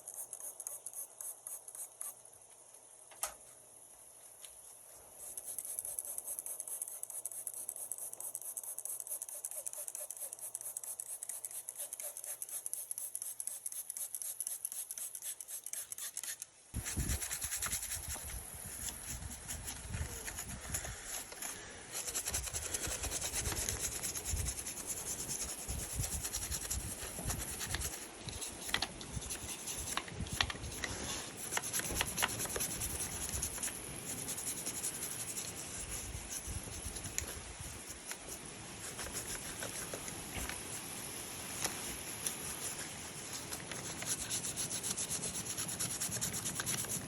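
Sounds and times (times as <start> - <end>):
scratchy rubbing on plastic: 5.2 - 47.0.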